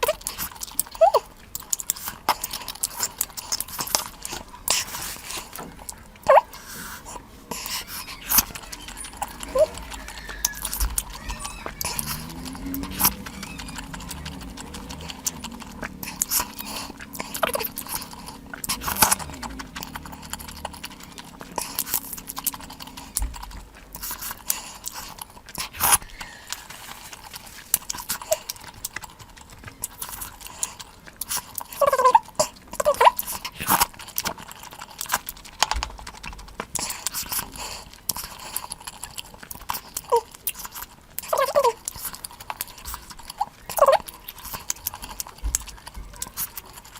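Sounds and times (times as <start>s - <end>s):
chewing and lip-smacking: 0.0s - 46.9s.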